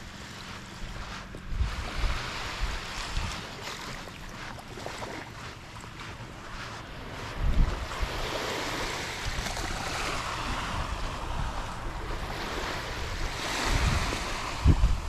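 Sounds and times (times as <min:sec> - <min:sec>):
surf washing onto beach: 0:00.0 - 0:15.0
wind gusting on microphone: 0:00.0 - 0:15.0.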